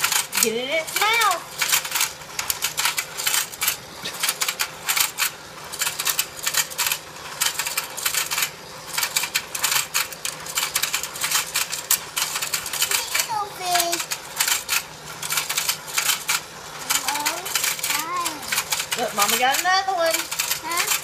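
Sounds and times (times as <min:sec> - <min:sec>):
faint motor hum: 0:00.0 - 0:21.0
toy clattering clicks: 0:00.0 - 0:21.0.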